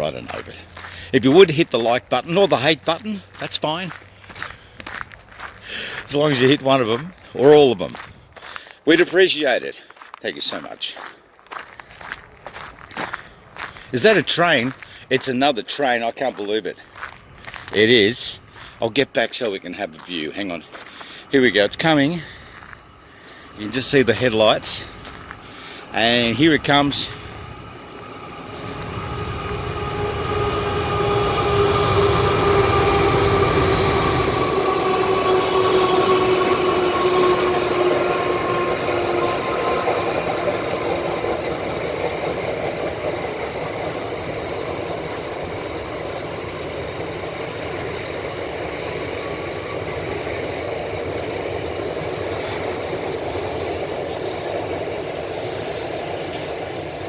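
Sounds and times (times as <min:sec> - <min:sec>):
train passing: 0:00.0 - 0:57.0
wheels rumbling on rails: 0:00.0 - 0:57.0.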